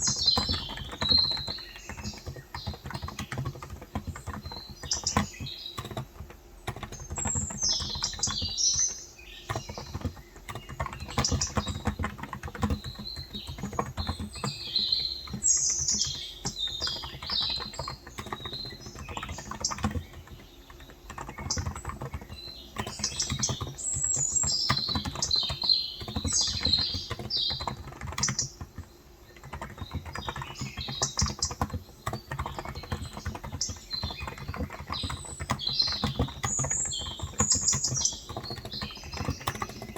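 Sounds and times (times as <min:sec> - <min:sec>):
keyboard typing clicks: 0:00.0 - 0:39.9
small birds chirping: 0:00.0 - 0:39.9.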